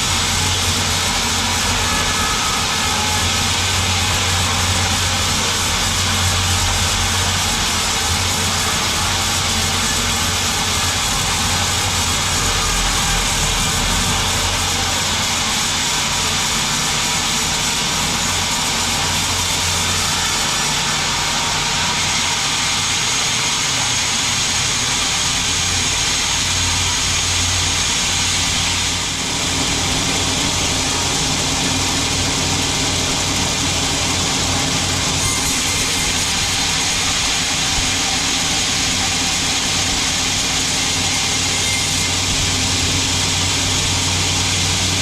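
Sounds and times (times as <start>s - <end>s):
band sawmill running: 0.0s - 45.0s.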